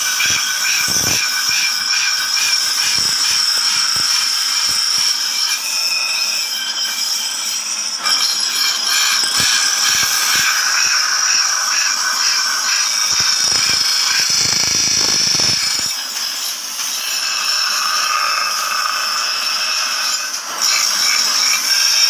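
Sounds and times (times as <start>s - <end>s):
bench grinder grinding metal: 0.0s - 22.0s.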